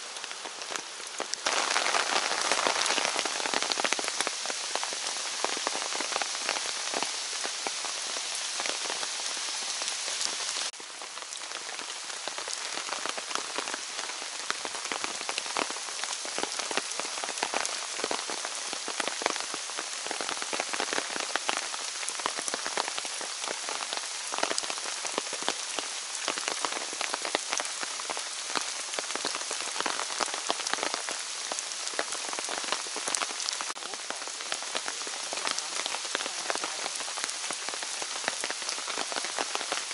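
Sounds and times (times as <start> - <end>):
close raindrops ticking: 0.0 - 39.9
steady rain in forest: 0.0 - 39.9.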